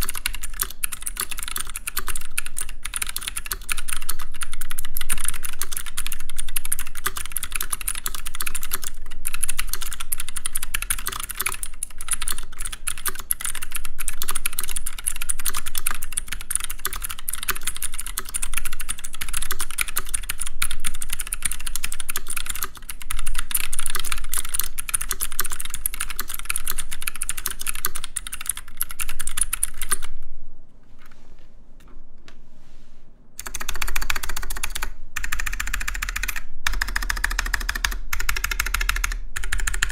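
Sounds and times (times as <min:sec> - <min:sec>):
keyboard typing: 0:00.0 - 0:30.2, 0:33.4 - 0:39.9.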